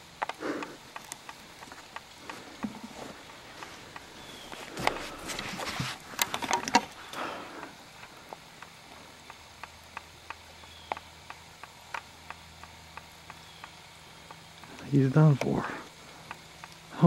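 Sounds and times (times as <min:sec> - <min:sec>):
faint crackles of leaves: 0:00.0 - 0:17.0.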